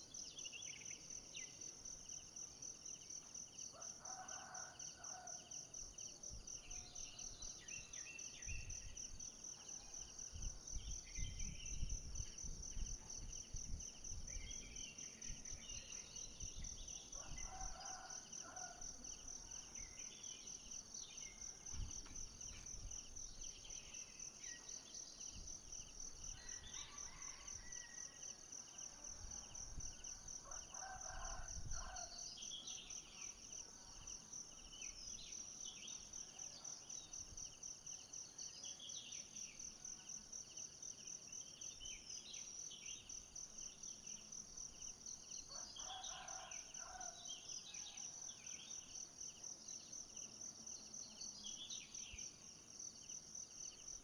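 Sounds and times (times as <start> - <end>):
pulsing insect chorus: 0.0 - 54.0.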